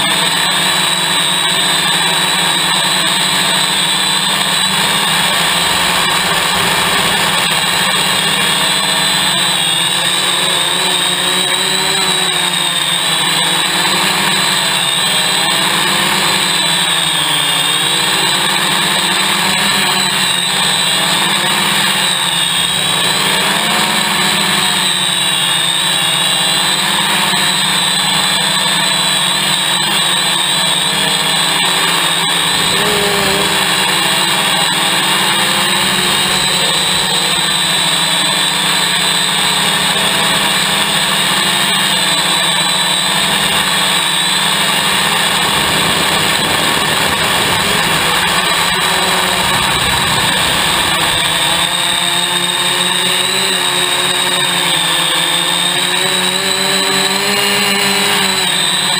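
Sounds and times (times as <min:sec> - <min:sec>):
drone propellers buzzing: 0:00.0 - 0:58.9.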